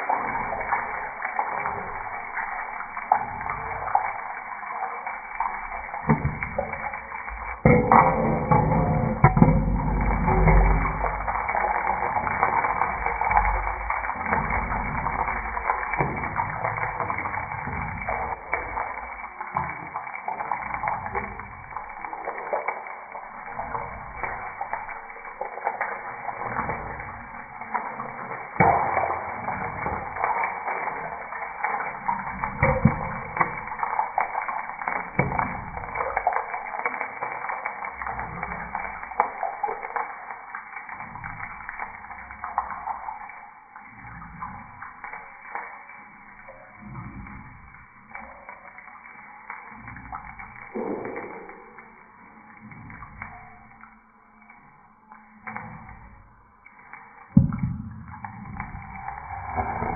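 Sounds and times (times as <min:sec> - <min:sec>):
oil sizzling in a pan: 0:00.0 - 0:59.9.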